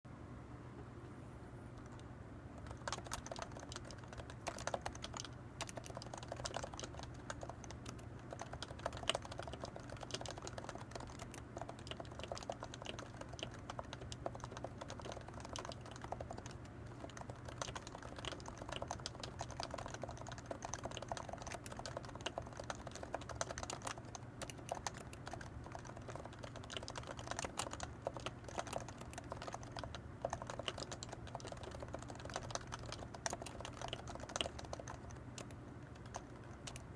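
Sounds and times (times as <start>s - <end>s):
fast typing on keyboard: 2.6s - 36.9s.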